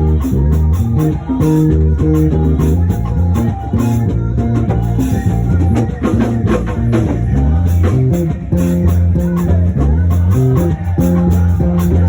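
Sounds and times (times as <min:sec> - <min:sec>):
bass guitar: 0:00.0 - 0:12.0
drum kit: 0:00.0 - 0:12.0
guitar: 0:00.0 - 0:12.0.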